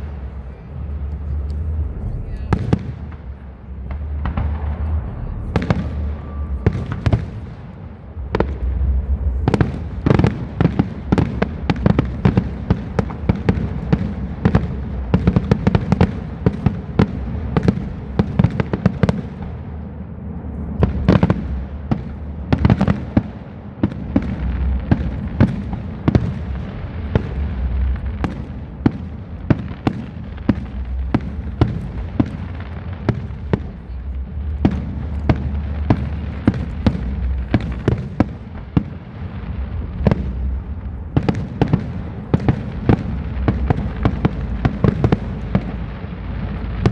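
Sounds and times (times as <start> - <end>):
fireworks bangs and cracks: 0.0 - 46.9
steady low rumble: 0.0 - 46.9.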